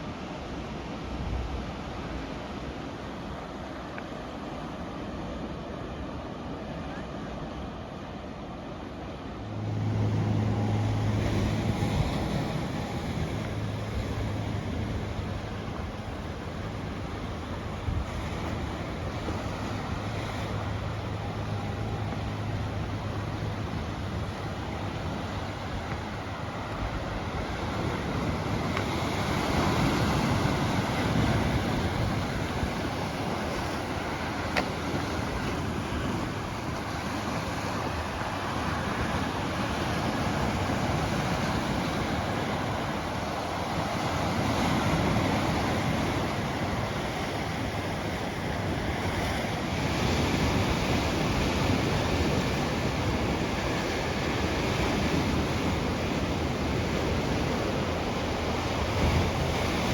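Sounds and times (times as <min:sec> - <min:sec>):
ocean surf washing ashore: 0:00.0 - 0:59.9
wind buffeting microphone: 0:09.4 - 0:59.9.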